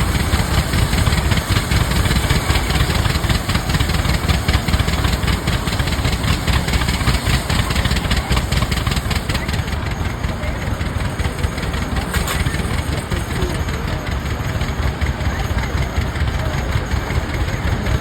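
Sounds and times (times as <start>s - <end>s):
old tractor engines pulsing: 0.0s - 18.0s.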